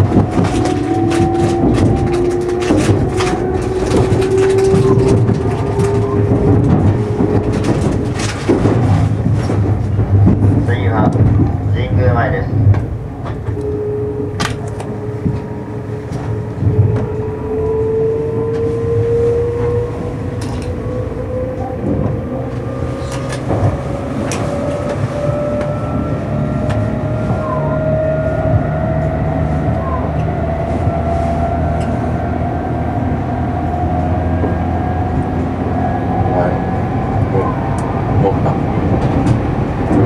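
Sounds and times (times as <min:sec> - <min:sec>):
electric train rumble: 0:00.0 - 0:40.0
train motor whine: 0:00.0 - 0:40.0.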